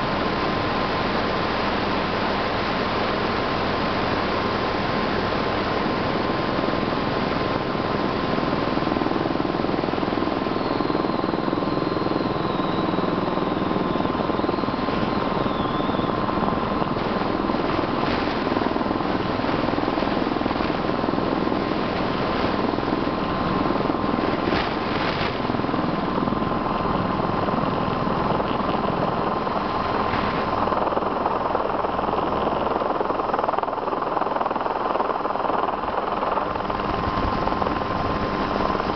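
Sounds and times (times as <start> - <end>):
helicopter hovering: 0.0 - 38.9
high turbine whine: 0.0 - 38.9.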